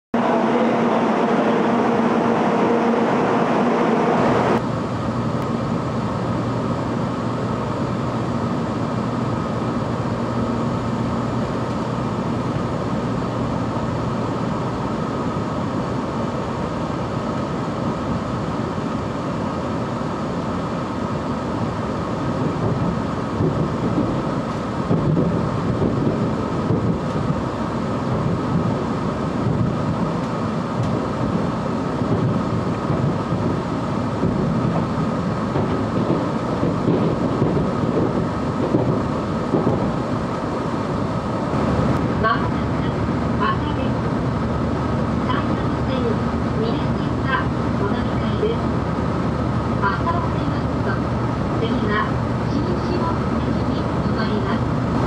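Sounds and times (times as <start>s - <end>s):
train rumbling and rushing: 0.1s - 55.0s
loud steady hum: 0.2s - 55.0s.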